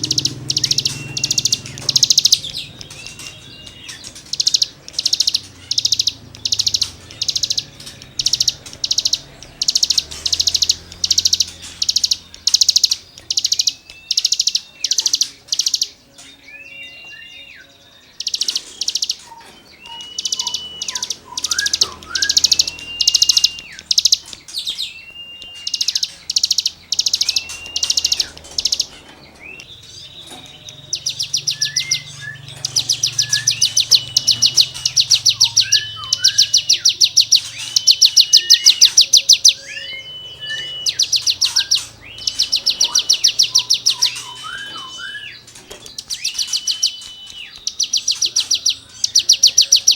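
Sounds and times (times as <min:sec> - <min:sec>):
bird whistled sliding notes: 0:00.0 - 0:49.9.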